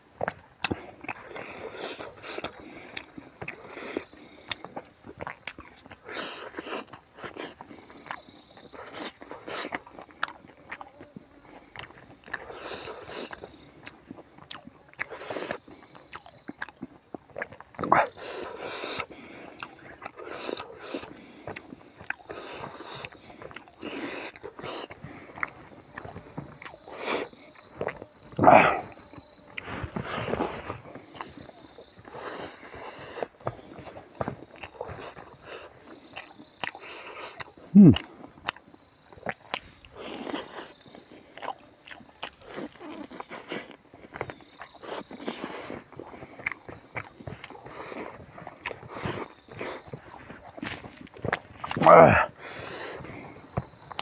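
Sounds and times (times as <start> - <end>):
insect drone: 0.0 - 54.0
man chewing food: 0.0 - 54.0.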